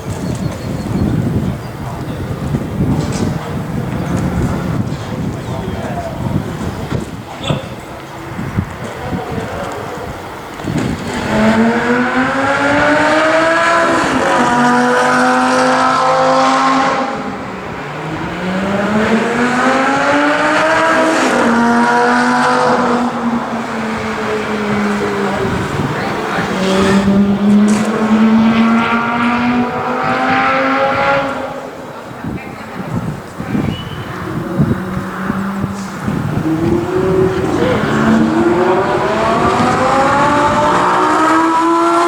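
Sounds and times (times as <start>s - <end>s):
sports car engine accelerating: 0.0s - 42.0s.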